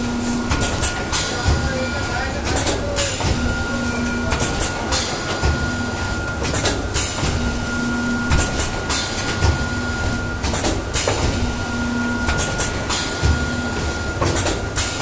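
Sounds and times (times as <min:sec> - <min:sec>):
machine whine and hum: 0:00.0 - 0:15.0.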